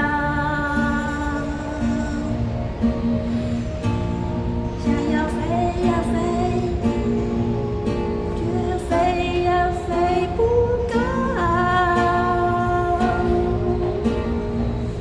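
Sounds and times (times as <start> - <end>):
woman singing softly: 0.0 - 2.6, 4.8 - 14.4
acoustic guitar: 0.0 - 15.0.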